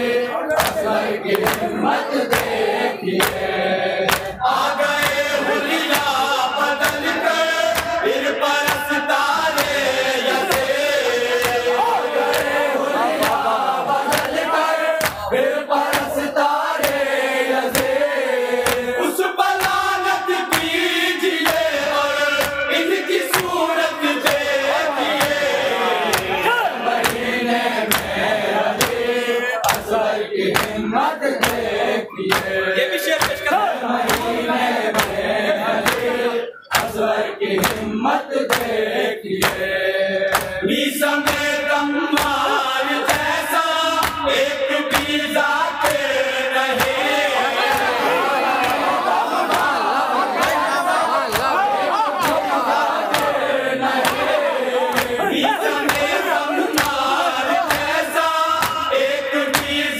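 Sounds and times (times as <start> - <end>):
men chanting in unison: 0.0 - 59.9
rhythmic chest-beating slaps: 0.0 - 59.9.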